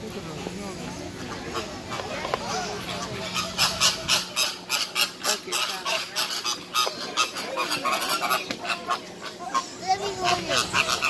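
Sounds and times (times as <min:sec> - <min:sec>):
flamingos honking: 0:00.4 - 0:11.0.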